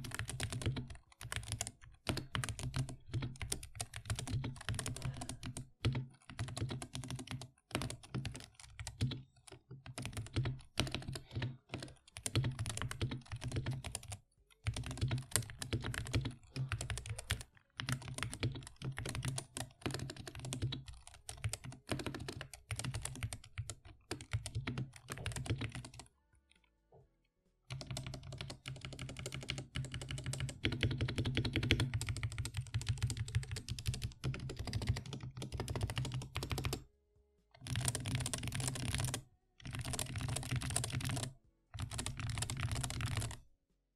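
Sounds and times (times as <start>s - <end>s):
mechanical keyboard typing: 0.0s - 26.1s, 27.7s - 36.8s, 37.6s - 43.4s.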